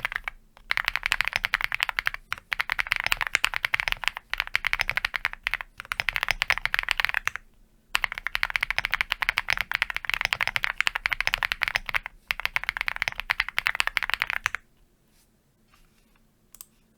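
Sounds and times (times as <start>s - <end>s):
fast mechanical keyboard typing: 0.0s - 7.4s, 8.0s - 14.6s.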